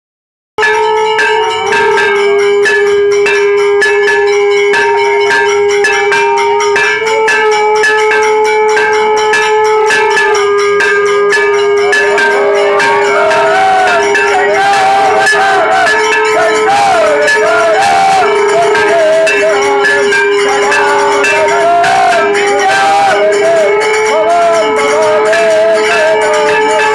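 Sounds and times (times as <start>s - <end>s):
steady ringing tone: 0.6s - 26.9s
temple bells struck rapidly: 0.6s - 26.9s
voices singing: 1.0s - 3.0s, 4.3s - 26.9s.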